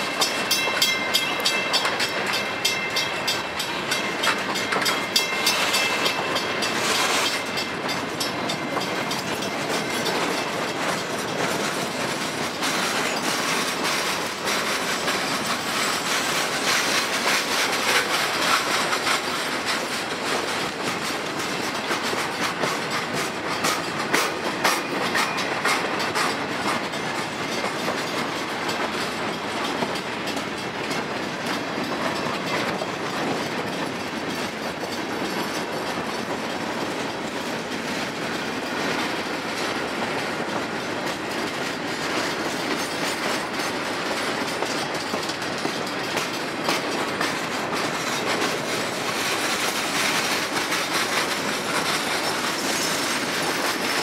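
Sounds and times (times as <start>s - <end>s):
train cars rumbling and rattling: 0.0s - 54.0s
train wheels clicking over rail joints: 0.0s - 54.0s.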